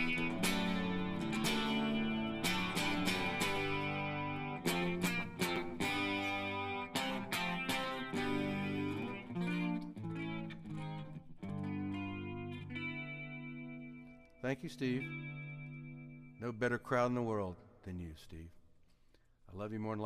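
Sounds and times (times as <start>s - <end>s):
guitar strumming chords: 0.0s - 17.5s.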